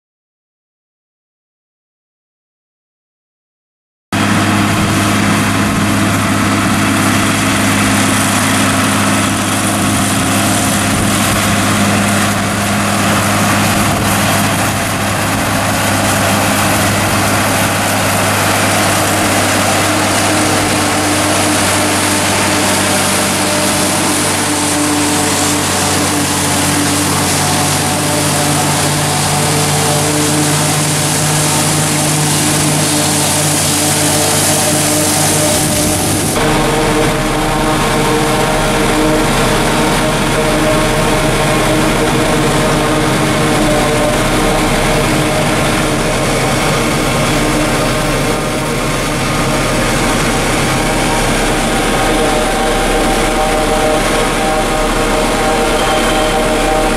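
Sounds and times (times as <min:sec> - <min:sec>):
forage harvester rushing whir: 0:04.2 - 0:56.9
tractor diesel engine under load: 0:04.2 - 0:56.9.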